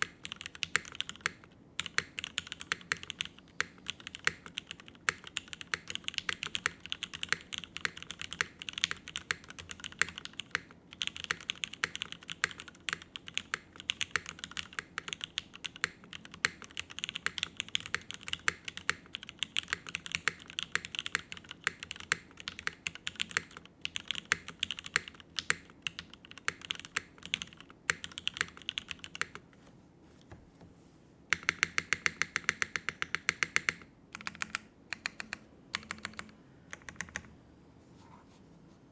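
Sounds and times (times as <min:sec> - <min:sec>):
mechanical keyboard typing: 0:00.0 - 0:29.4, 0:31.3 - 0:37.3.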